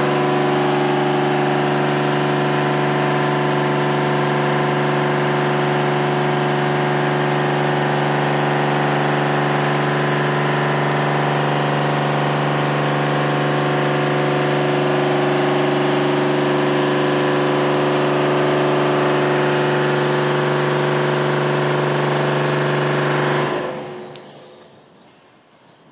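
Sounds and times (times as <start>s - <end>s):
cooling system machine hum: 0.0s - 25.5s.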